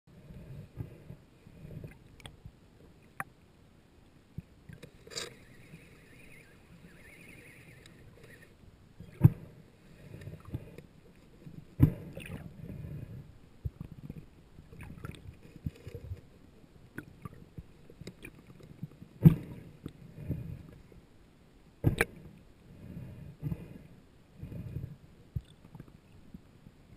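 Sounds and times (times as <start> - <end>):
underwater water swishes and rumbles: 0.1 - 3.4, 4.2 - 21.0, 21.8 - 26.9.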